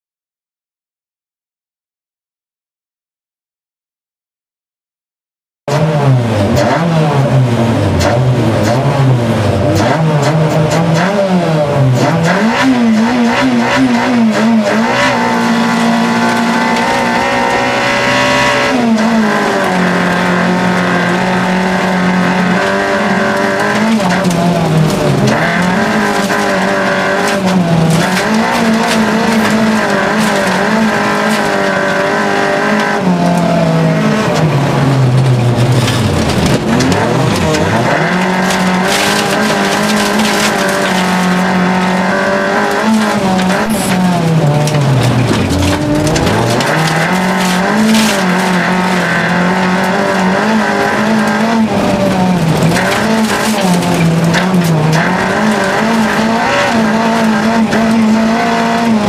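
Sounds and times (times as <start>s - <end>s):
car engine revving hard: 5.7s - 59.0s.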